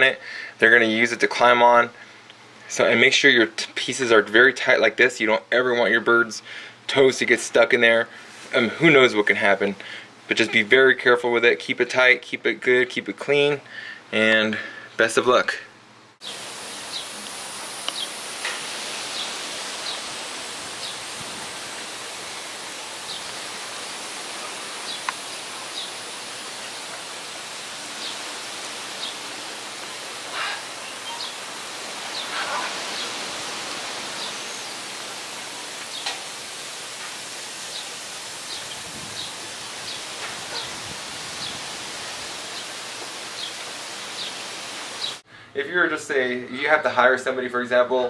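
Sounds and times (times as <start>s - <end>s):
outdoor ambient hiss: 0.0s - 48.0s.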